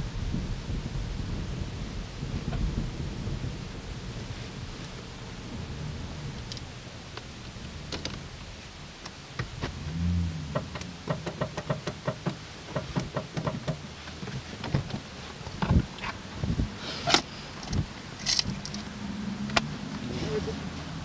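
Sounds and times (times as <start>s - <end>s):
low rumble in car cabin: 0.0s - 21.0s.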